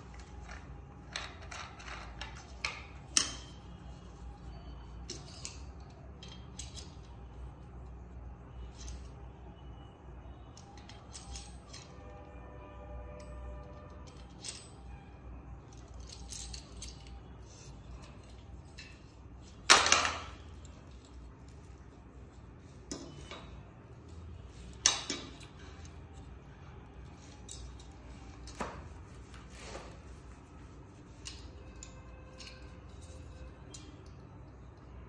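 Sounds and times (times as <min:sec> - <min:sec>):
metal parts clicking and knocking: 0:00.0 - 0:08.0, 0:08.6 - 0:09.2, 0:10.5 - 0:12.1, 0:13.2 - 0:14.9, 0:15.6 - 0:30.2, 0:31.0 - 0:35.0.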